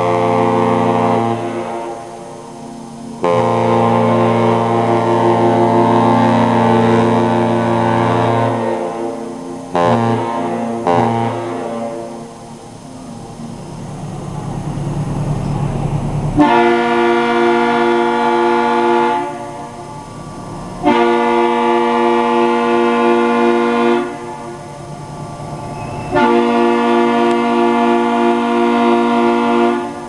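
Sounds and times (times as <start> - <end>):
foghorn blasts: 0.0 - 30.0
low rumble: 1.3 - 29.1.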